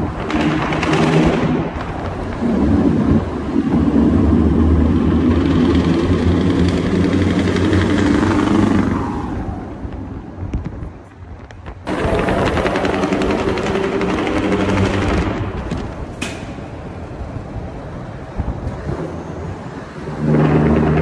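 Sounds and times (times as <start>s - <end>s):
truck engine rumbling in tunnel: 0.0s - 21.0s.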